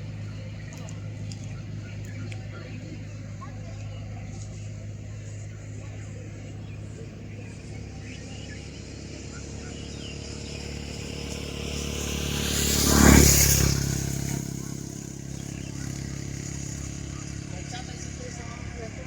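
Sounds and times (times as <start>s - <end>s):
motor vehicle passing: 0.0s - 19.0s
steady low hum: 0.0s - 19.0s.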